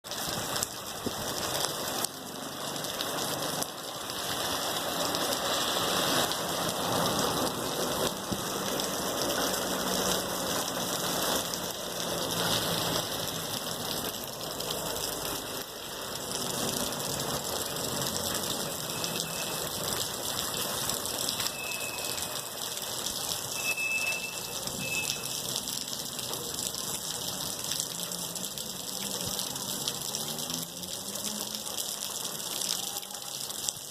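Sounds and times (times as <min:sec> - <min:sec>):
heavy rain falling: 0:00.0 - 0:33.9
water pouring and gushing: 0:00.0 - 0:33.9.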